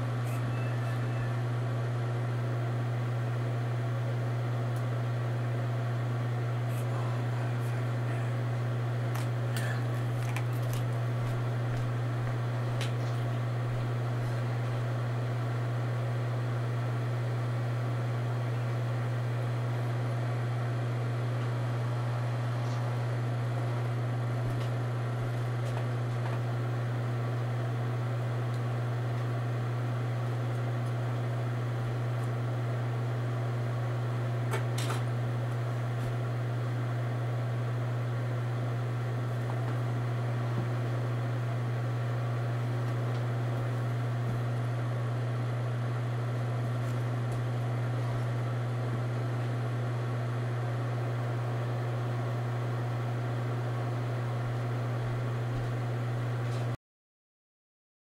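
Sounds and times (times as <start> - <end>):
steady low hum: 0.0 - 56.8.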